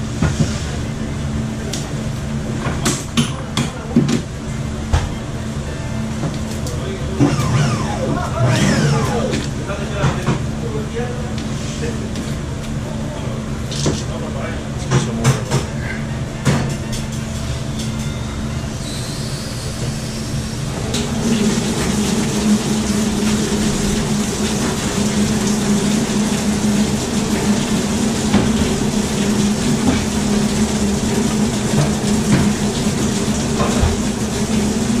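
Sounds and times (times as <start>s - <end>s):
drain machine humming: 3.7s - 16.8s, 17.5s - 35.0s.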